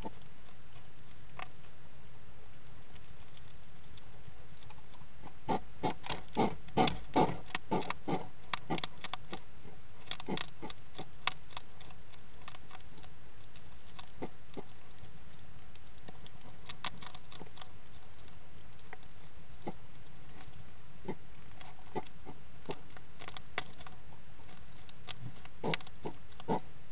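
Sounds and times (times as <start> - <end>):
hedgehog crunching dry food: 0.0 - 26.9.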